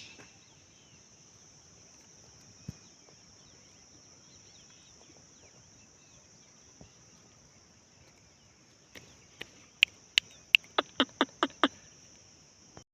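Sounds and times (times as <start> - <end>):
insect drone: 0.0 - 12.8.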